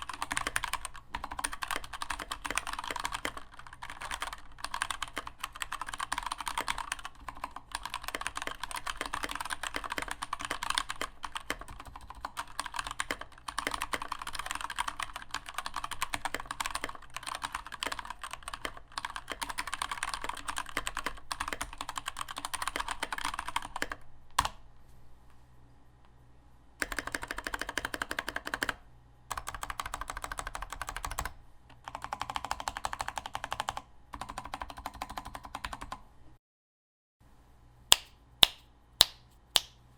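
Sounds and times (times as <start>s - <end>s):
mechanical keyboard typing: 0.0s - 24.6s, 26.8s - 36.0s.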